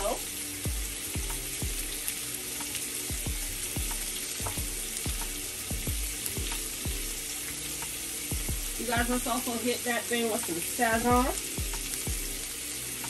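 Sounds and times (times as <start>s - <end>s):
bacon sizzling in a pan: 0.0s - 13.0s.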